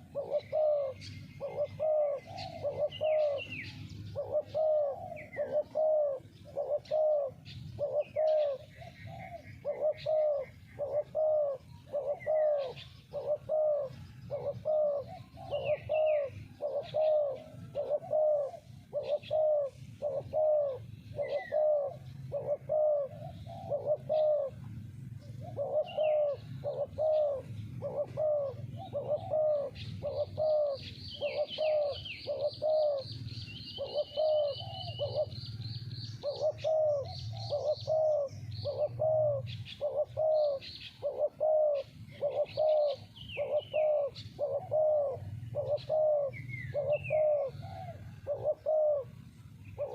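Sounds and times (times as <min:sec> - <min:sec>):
dove cooing: 0:00.0 - 0:49.9
small birds chirping: 0:00.0 - 0:49.9.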